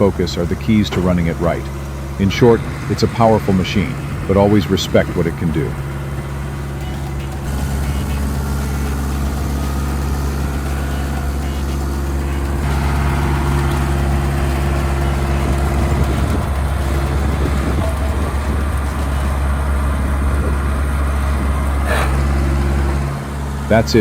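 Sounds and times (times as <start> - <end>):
engine low drone: 0.0 - 24.0.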